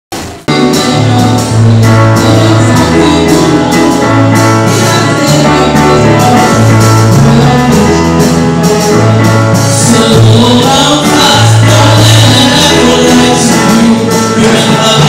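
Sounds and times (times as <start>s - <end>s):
deep bass notes: 0.1s - 15.0s
drums keeping a steady beat: 0.1s - 15.0s
guitar: 0.1s - 15.0s.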